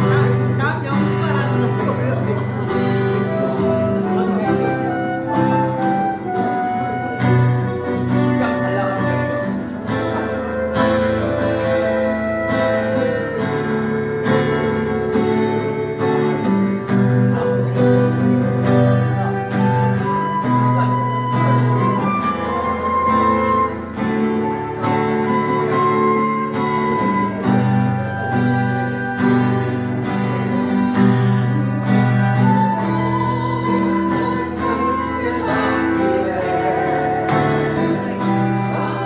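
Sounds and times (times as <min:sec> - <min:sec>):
instrumental backing: 0:00.0 - 0:39.0
flute playing slow melody: 0:02.5 - 0:16.6, 0:17.2 - 0:39.0.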